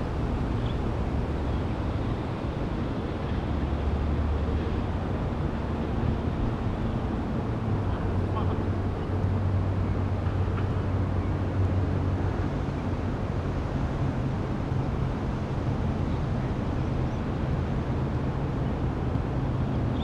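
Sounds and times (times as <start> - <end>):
low engine-like hum: 0.0 - 20.0.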